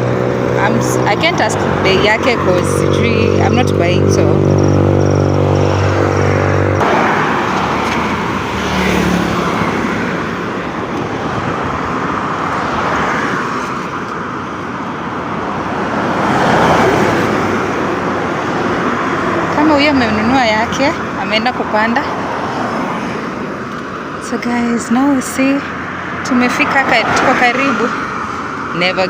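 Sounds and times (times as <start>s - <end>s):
steady engine hum: 0.0s - 29.0s.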